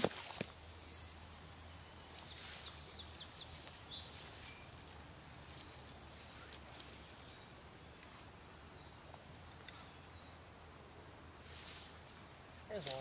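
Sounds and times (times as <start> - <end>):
faint stream hiss: 0.0 - 13.0
faint bird chirps: 0.6 - 11.9.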